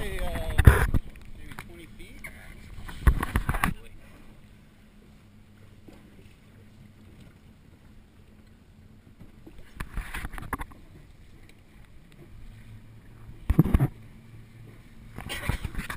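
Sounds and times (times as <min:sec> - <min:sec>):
wind and water noise: 0:00.0 - 0:15.9.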